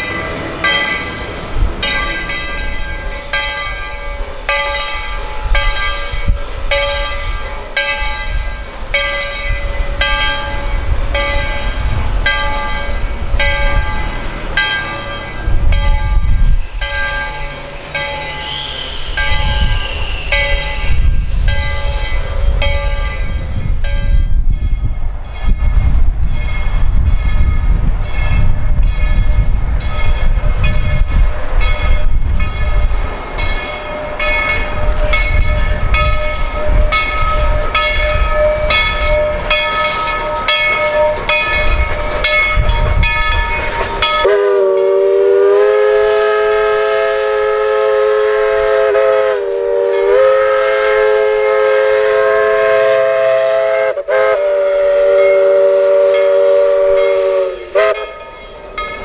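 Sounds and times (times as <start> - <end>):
steam chime whistle: 0.0 - 24.7, 25.4 - 59.0
steam locomotive rumble and exhaust: 0.0 - 59.0.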